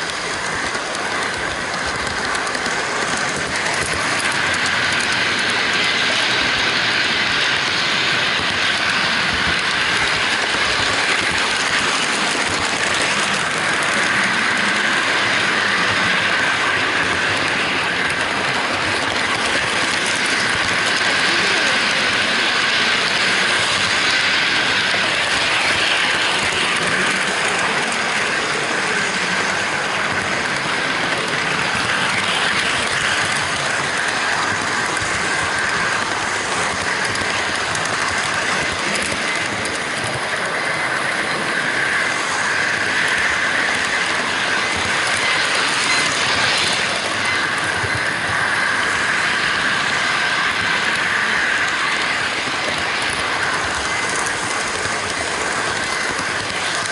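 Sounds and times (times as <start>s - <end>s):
model train wheels rattling on rails: 0.0s - 56.9s.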